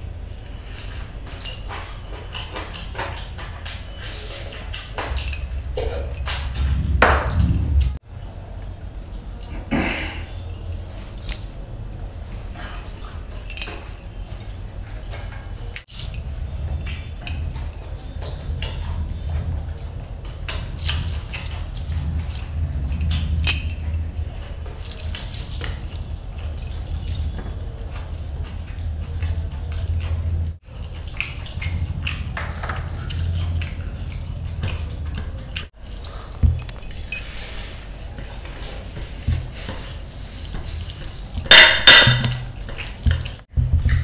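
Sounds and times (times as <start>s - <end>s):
metal jewellery clinking: 0.0s - 3.4s, 4.7s - 8.0s, 9.0s - 19.6s, 20.2s - 43.5s.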